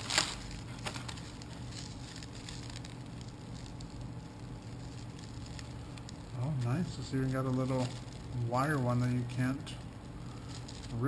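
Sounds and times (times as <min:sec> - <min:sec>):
plastic packaging crinkling: 0:00.0 - 0:11.0
steady low hum: 0:00.0 - 0:11.0.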